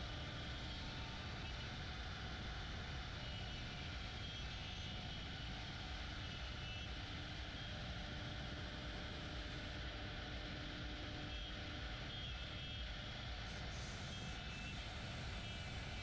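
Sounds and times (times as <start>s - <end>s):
cnc router whirring: 0.0s - 16.0s.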